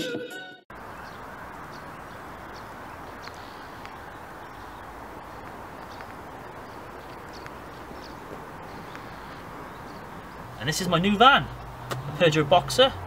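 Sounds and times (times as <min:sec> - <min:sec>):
background rush: 0:00.7 - 0:13.0.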